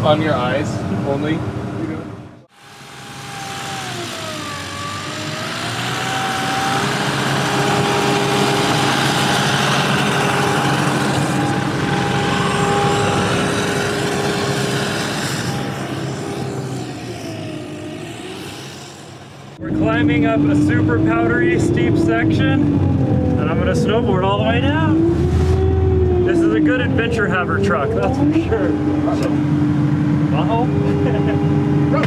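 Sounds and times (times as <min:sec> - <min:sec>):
snowcat engine running: 0:02.4 - 0:32.0.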